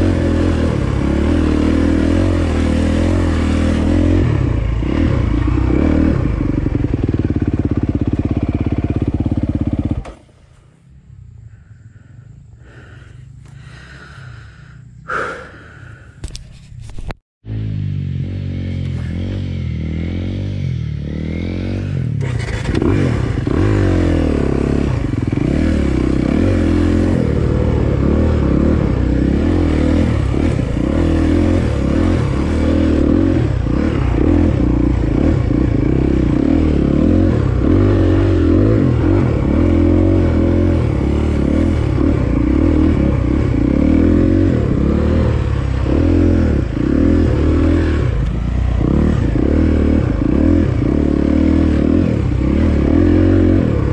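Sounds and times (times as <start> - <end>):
dirt bike engine revving: 0.0 - 10.4, 17.4 - 53.9.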